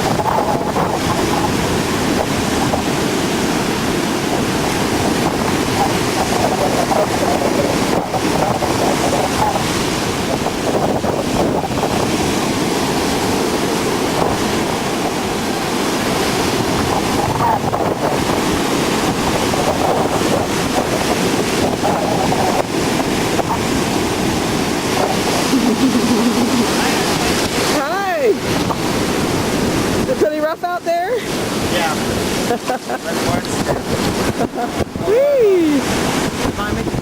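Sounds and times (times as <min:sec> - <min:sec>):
ocean surf roaring: 0:00.0 - 0:37.0
wind buffeting microphone: 0:00.0 - 0:37.0.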